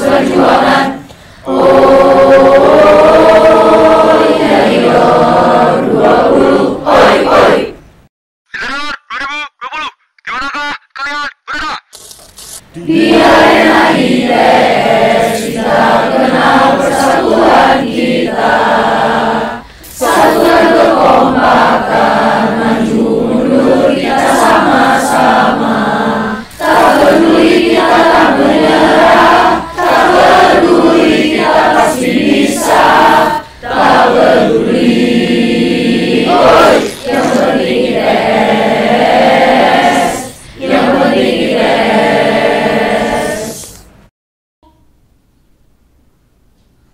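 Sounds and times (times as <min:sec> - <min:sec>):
group of young voices singing: 0:00.0 - 0:07.8, 0:12.8 - 0:43.8.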